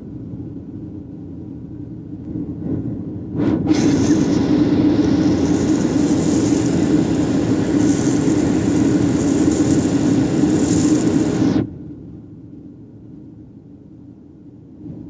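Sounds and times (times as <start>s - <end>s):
airliner cabin engine rush: 0.0s - 12.3s.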